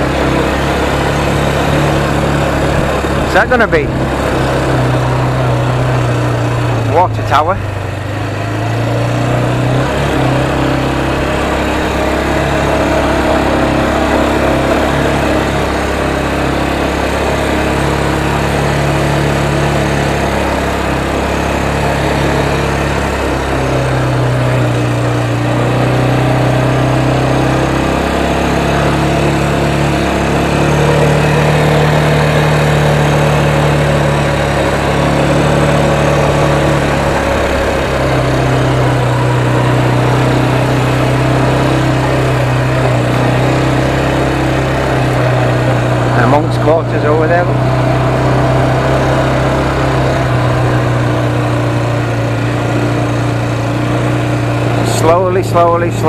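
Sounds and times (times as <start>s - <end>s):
road noise: 0.0s - 56.0s
small motorbike engine running: 0.0s - 56.0s
wind: 0.0s - 56.0s.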